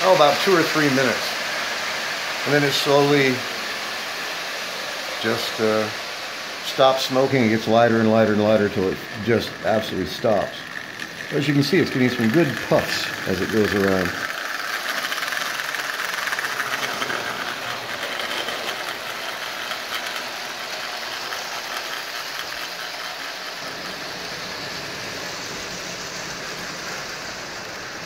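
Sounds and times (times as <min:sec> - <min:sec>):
toy train motor whirring and clattering: 0:00.0 - 0:28.0.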